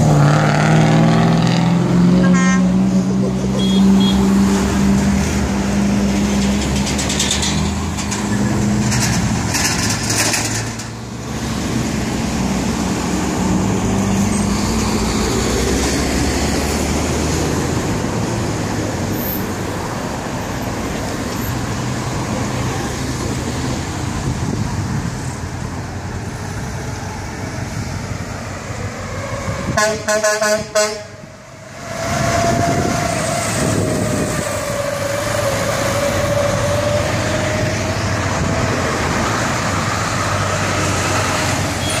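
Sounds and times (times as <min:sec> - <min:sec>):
passing cars and trucks: 0:00.0 - 0:42.0.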